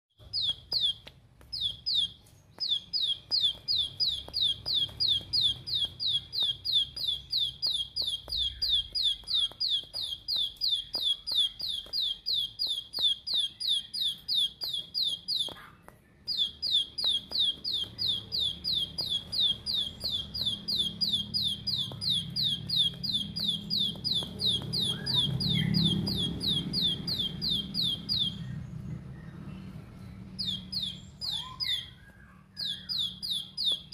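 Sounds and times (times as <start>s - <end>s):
bird calling rapid high notes: 0.2s - 28.6s, 30.3s - 33.9s.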